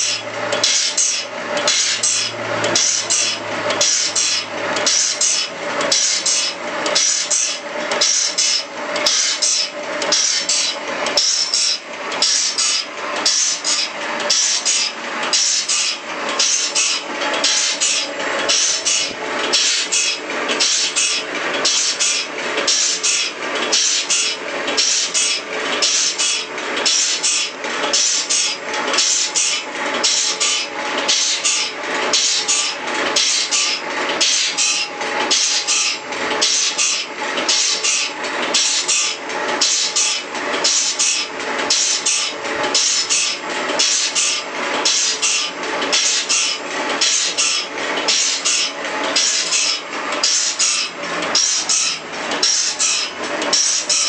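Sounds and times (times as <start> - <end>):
grinding wheel grinding saw teeth: 0.0 - 54.0.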